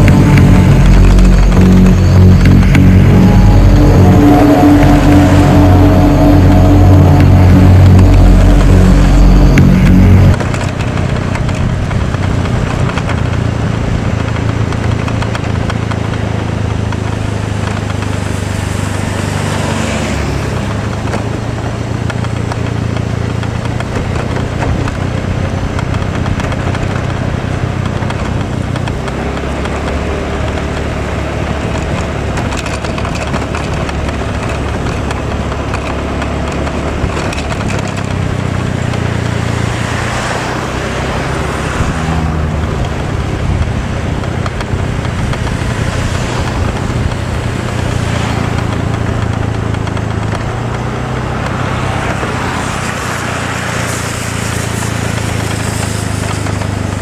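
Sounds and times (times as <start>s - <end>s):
tyre and road noise: 0.0s - 57.0s
vehicle engine running: 0.0s - 57.0s.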